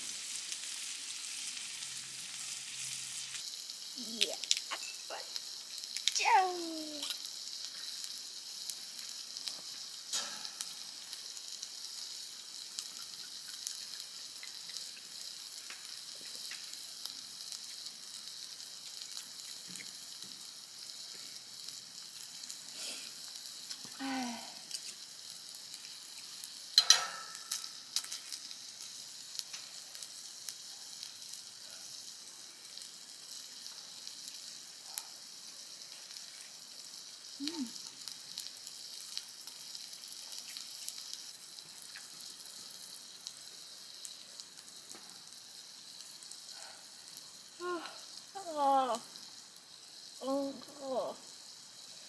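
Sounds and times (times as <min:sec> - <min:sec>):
beef sizzling on grill plate: 0:00.0 - 0:52.0.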